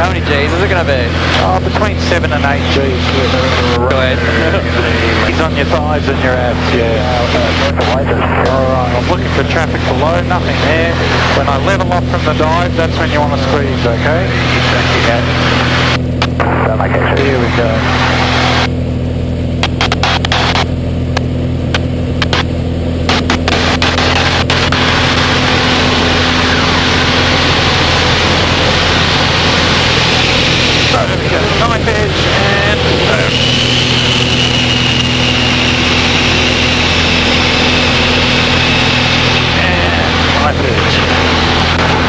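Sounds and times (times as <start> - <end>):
plane engine droning: 0.0 - 42.0.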